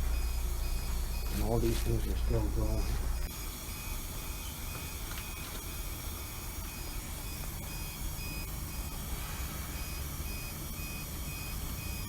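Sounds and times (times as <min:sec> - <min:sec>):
electronic beeps: 0:00.0 - 0:05.6, 0:06.6 - 0:09.1, 0:09.7 - 0:12.0
ventilation fans running: 0:00.0 - 0:12.0.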